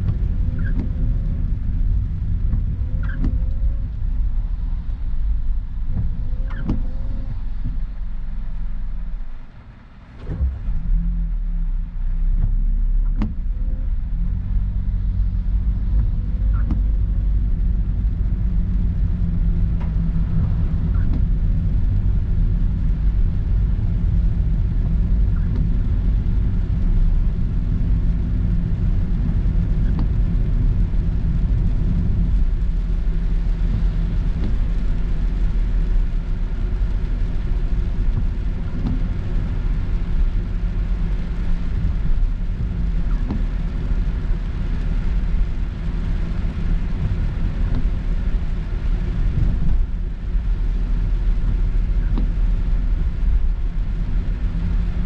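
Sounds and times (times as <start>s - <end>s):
engine and road rumble: 0.0s - 55.0s.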